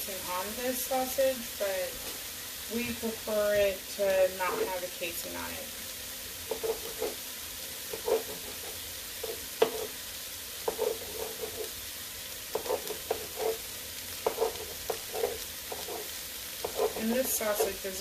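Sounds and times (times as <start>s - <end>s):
chicken sizzling in a pot: 0.0s - 18.0s.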